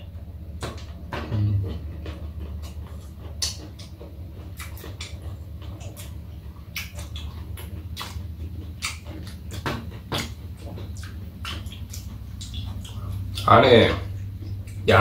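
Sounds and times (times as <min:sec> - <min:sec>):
people chewing and lip smacking: 0:00.0 - 0:15.0
steady low hum: 0:00.0 - 0:15.0.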